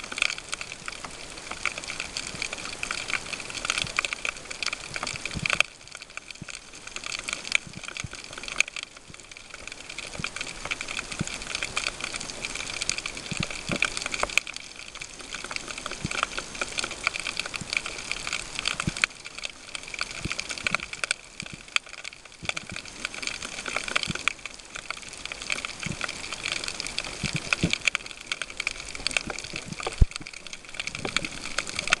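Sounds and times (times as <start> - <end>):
crackle of tiny clicks: 0.0 - 32.0.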